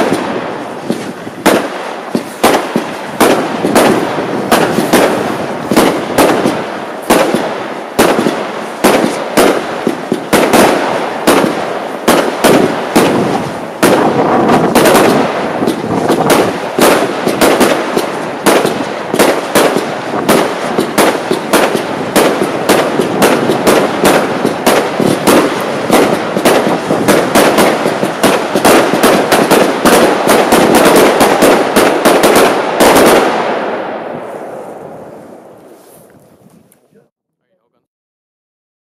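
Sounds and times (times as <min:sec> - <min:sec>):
firework crackle and hiss: 0:00.0 - 0:37.0
firework cake firing volley: 0:00.0 - 0:37.1.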